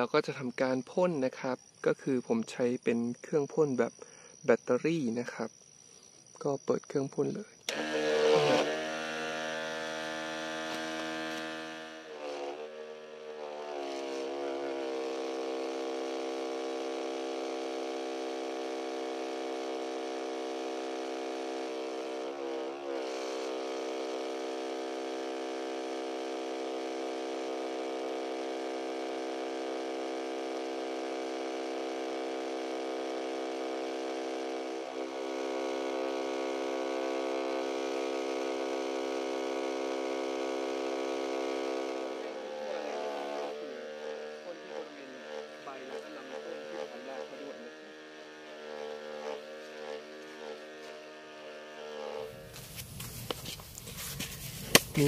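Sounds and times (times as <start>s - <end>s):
electric pump motor hum: 7.6s - 55.0s.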